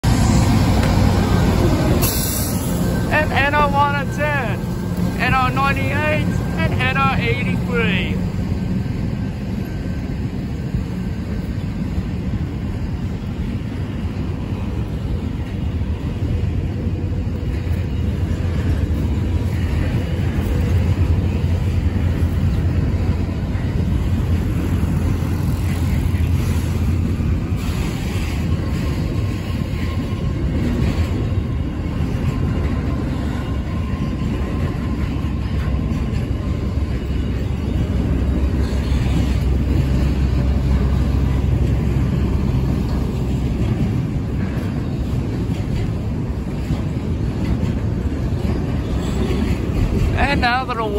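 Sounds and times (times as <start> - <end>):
freight wagons rumbling on rails: 0.0 - 50.9.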